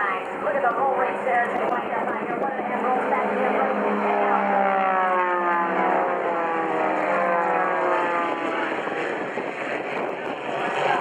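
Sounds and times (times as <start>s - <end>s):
propeller airplane flying past: 0.0s - 11.0s.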